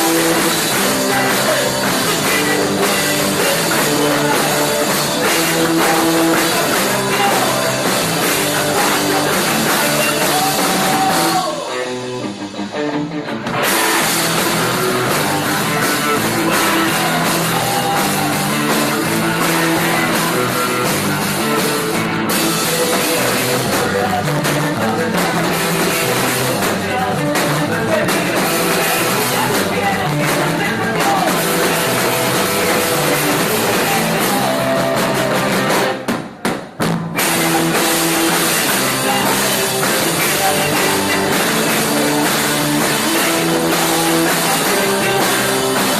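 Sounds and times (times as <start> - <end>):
drums and cymbals: 0.0 - 12.9, 13.5 - 45.9
rock band playing: 0.0 - 45.9.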